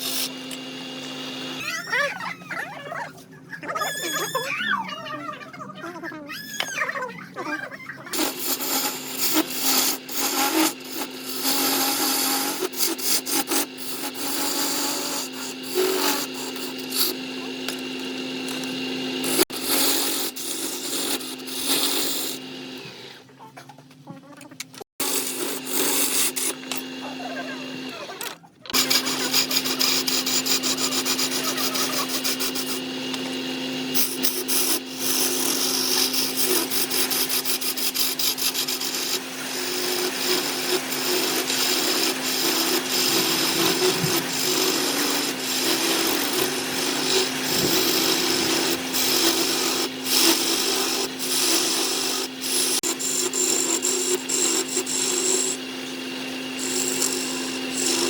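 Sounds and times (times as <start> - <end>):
turning tool rasping on wood: 0.0 - 1.6, 8.1 - 23.1, 25.0 - 27.9, 28.7 - 58.0
wood lathe motor hum: 0.0 - 1.8, 8.1 - 23.2, 25.0 - 58.0.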